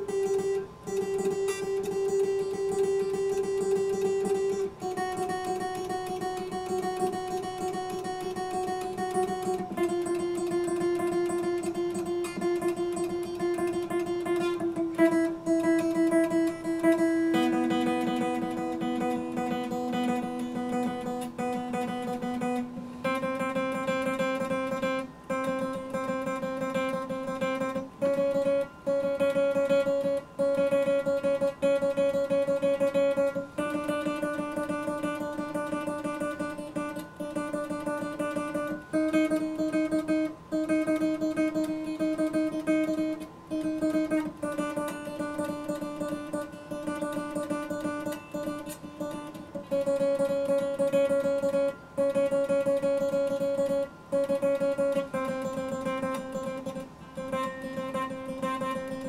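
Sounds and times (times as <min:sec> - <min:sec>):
acoustic guitar picking chords: 0:00.0 - 0:59.0.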